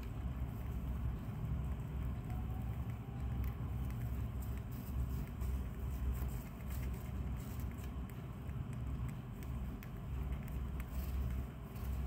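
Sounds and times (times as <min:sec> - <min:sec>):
hamster chewing: 0:00.0 - 0:12.0
steady low rumble: 0:00.0 - 0:12.0.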